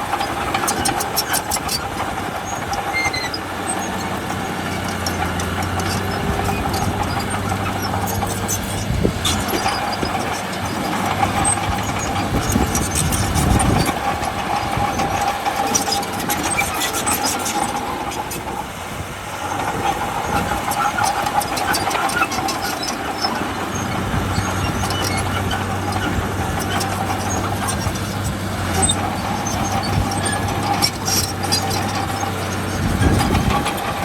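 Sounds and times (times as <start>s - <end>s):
diesel engine of heavy machinery: 0.0s - 34.0s.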